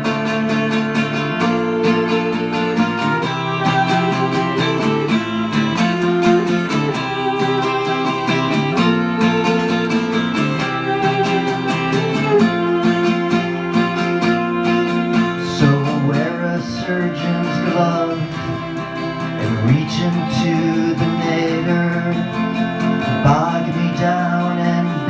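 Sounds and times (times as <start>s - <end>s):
viola holding long notes: 0.0s - 22.0s
guitar strumming: 0.0s - 25.0s.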